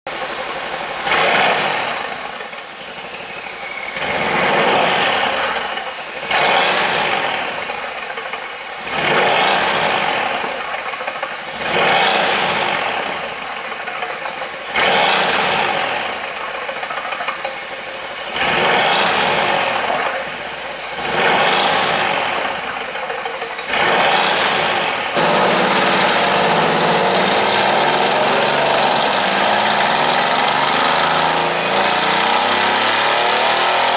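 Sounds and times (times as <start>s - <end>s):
car engine idling: 0.0s - 33.9s
car engine revving with exhaust crackle: 0.1s - 33.9s.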